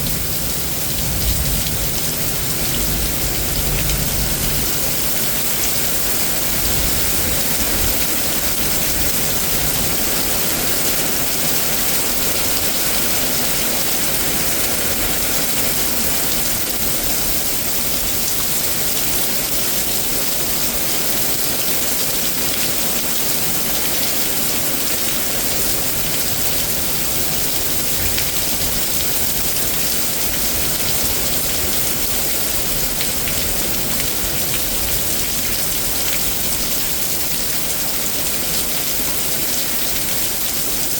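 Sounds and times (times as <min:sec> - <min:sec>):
heavy rain splashing: 0:00.0 - 0:40.9.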